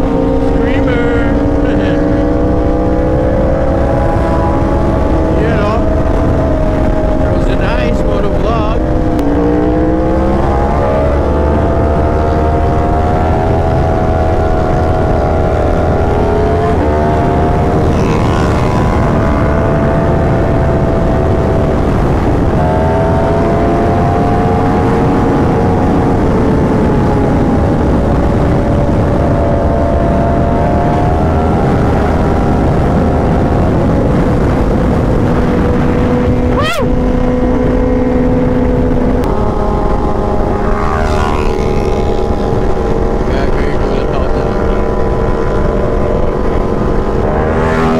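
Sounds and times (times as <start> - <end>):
motorcycle engine revving: 0.0 - 47.9
wind rushing on microphone: 0.0 - 47.9.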